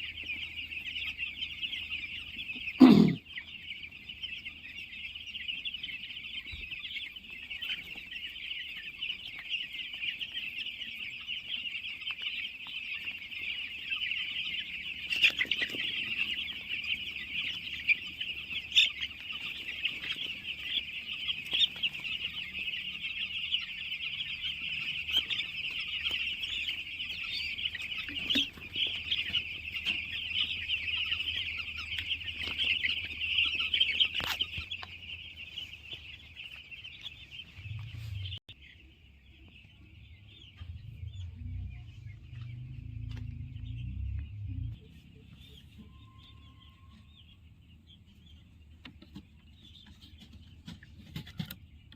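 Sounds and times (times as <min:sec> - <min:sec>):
chickens calling: 0:00.0 - 0:51.9.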